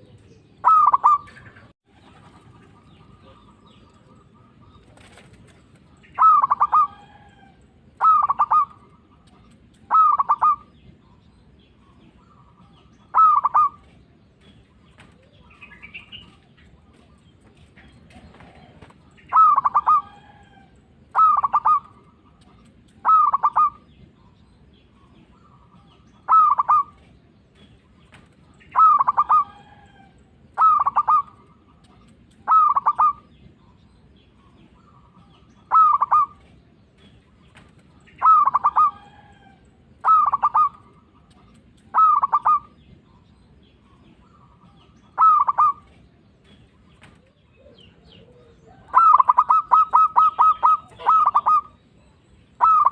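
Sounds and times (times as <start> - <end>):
dove cooing: 0.0 - 10.7, 12.0 - 14.1, 14.9 - 24.1, 25.1 - 33.5, 34.7 - 43.0, 43.9 - 52.9.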